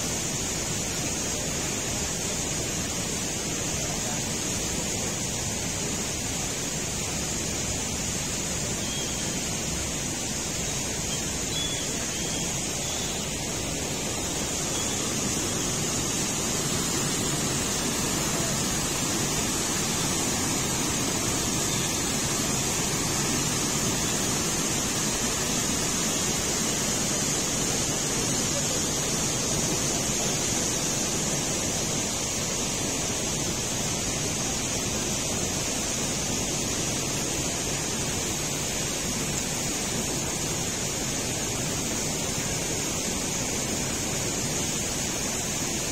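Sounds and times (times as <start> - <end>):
river water rushing through rocks: 0.0 - 45.9
steady high hiss: 0.0 - 45.9.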